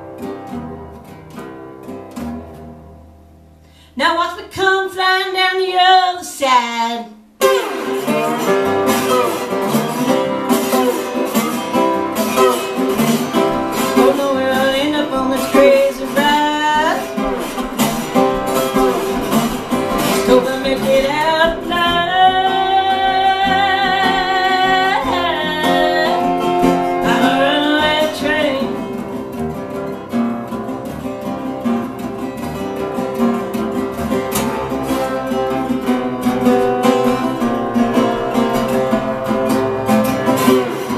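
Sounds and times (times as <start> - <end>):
resonator guitar playing blues: 0.0 - 40.9.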